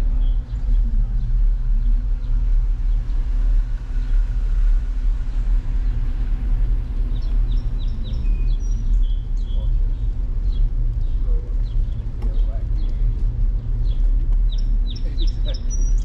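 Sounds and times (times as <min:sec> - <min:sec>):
bicycle tyre noise: 0:00.0 - 0:16.0
wind buffeting: 0:00.0 - 0:16.0.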